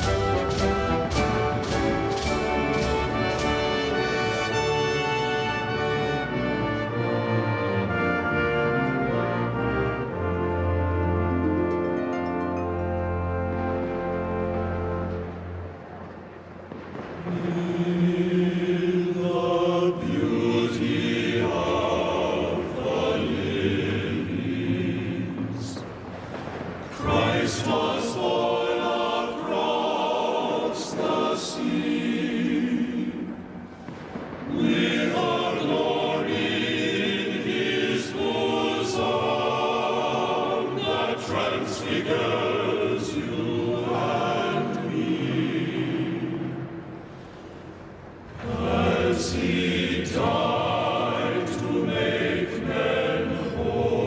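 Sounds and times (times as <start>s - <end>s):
choir singing sustained notes: 0.0s - 54.0s.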